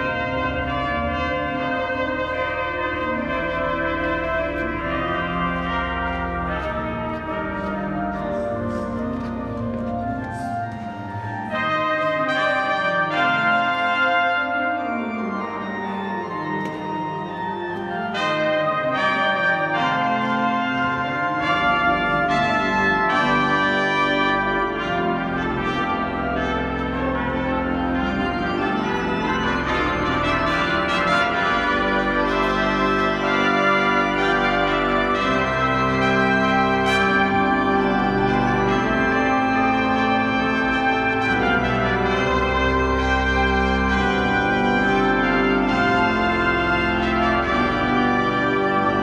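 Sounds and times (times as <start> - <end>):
pipe organ chords: 0.0 - 49.0
trumpets playing: 0.0 - 49.0.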